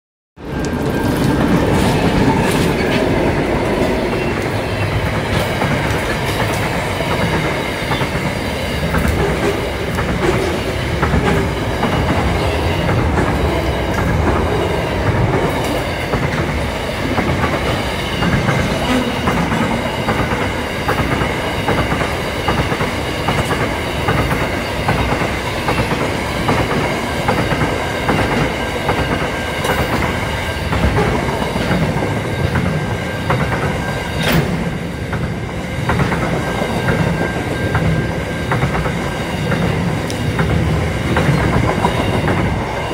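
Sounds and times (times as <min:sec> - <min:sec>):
clickety-clack over rail joints: 0:00.4 - 0:42.9
diesel locomotives passing: 0:00.4 - 0:42.9
rumble of train wheels: 0:00.4 - 0:42.9.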